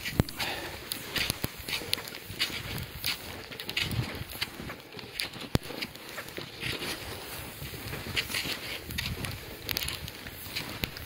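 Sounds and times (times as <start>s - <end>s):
ski poles planting in snow: 0.0s - 11.0s
skis sliding and crunching on snow: 0.0s - 11.0s.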